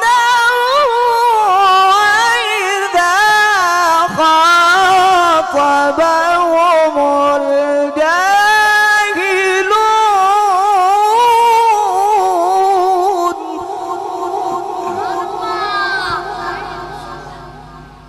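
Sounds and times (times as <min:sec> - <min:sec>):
man chanting through microphone: 0:00.0 - 0:18.0.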